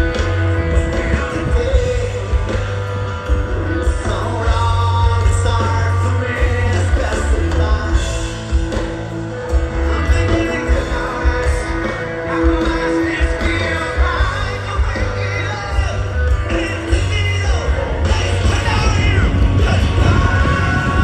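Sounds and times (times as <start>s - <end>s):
person singing: 0.0s - 8.6s, 9.8s - 21.0s
live rock band: 0.0s - 21.0s
pulsing bass and drums: 0.0s - 21.0s.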